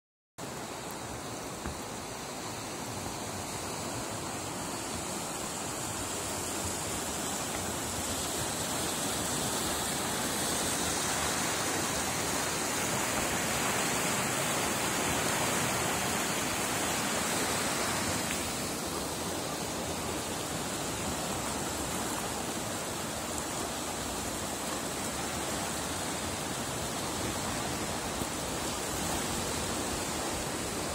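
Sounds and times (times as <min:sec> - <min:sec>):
river in flood rushing: 0:00.4 - 0:30.9.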